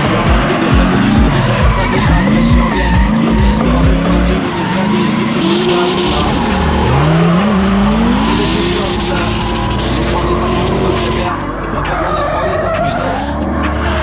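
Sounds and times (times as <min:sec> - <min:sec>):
car engine revving hard: 0:00.0 - 0:14.0
tyres skidding and squealing: 0:00.0 - 0:14.0.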